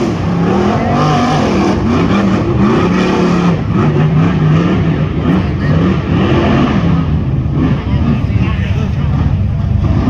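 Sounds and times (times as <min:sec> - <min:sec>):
buggy engines revving hard: 0:00.0 - 0:10.0.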